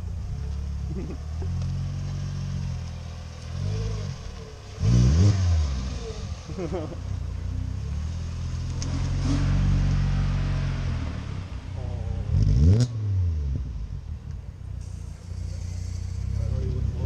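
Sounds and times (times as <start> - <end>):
car engine revving: 0.0 - 17.0
car engine running: 0.0 - 17.0.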